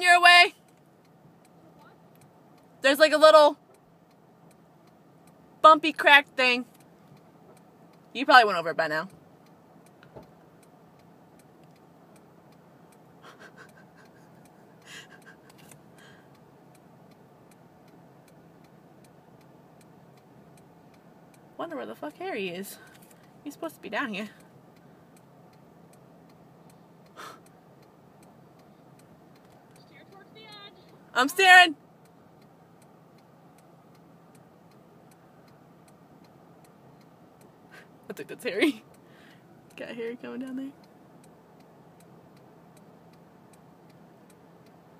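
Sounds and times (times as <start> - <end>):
low steady hum: 0.0 - 44.9
turn signal ticking: 0.0 - 44.9
car indicator clicking: 0.2 - 44.9.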